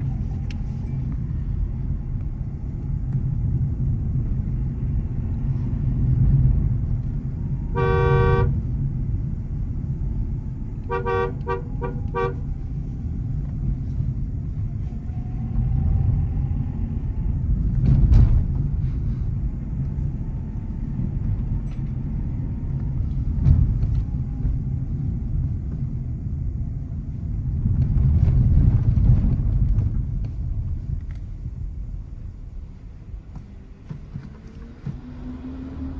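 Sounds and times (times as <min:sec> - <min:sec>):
car driving rumble: 0:00.0 - 0:35.9.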